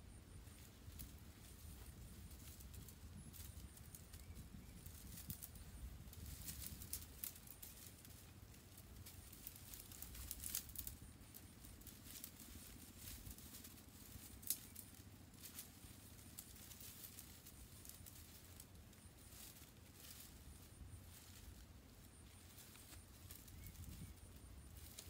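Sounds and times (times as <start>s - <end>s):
leafy branches rustling: 0.2s - 25.0s.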